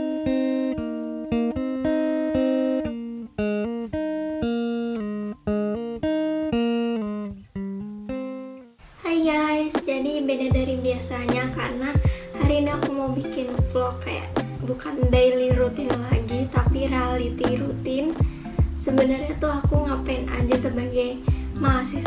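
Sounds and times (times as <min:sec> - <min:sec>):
plucked guitar melody: 0:00.0 - 0:08.8, 0:10.5 - 0:22.0.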